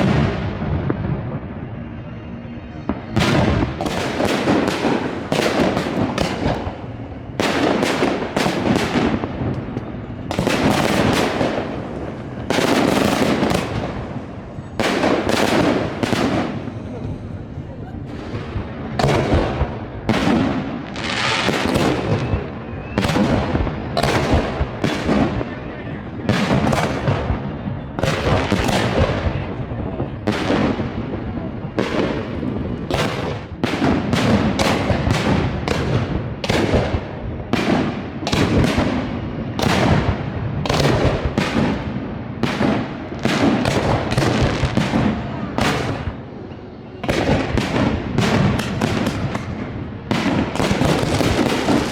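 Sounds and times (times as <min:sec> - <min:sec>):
crackling hiss of fireworks: 0:00.0 - 0:51.9
fireworks bursting: 0:00.0 - 0:51.9.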